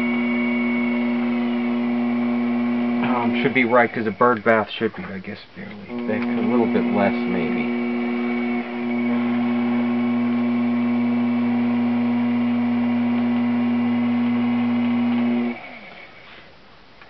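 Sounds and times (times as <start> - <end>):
potter's wheel motor humming: 0.0 - 4.4, 5.8 - 16.1.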